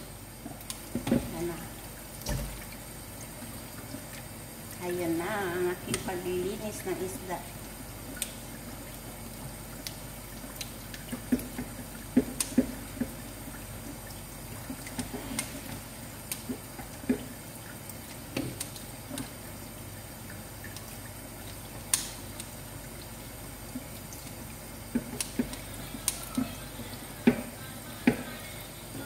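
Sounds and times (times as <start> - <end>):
tap water running in sink: 0.0 - 29.0.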